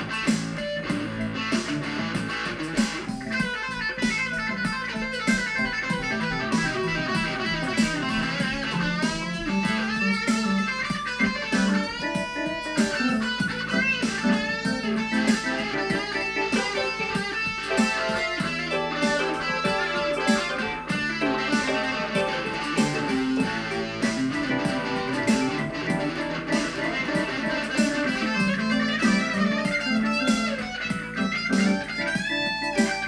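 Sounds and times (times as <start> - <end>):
electric guitar blues: 0.0 - 33.0
electronic keyboard: 0.0 - 33.0.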